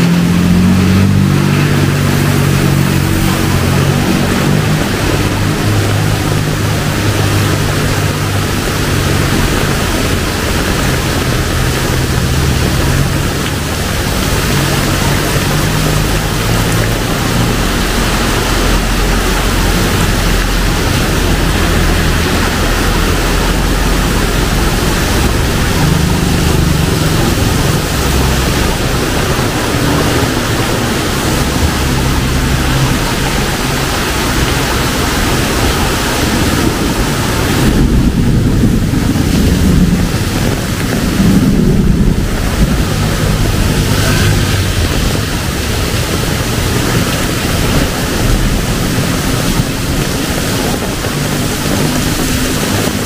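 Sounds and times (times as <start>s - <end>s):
heavy rain pouring: 0.0s - 53.0s
low rumbling: 0.0s - 53.0s.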